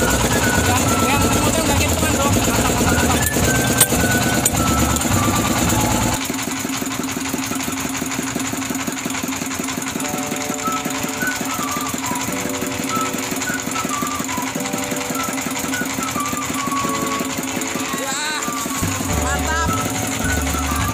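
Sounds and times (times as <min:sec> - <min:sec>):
boat engine knocking: 0:00.0 - 0:20.9.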